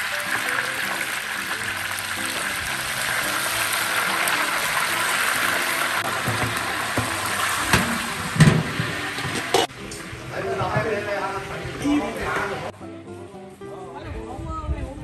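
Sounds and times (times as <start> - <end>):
meat deep-frying in oil: 0.0 - 12.7
faint background music: 0.0 - 15.0.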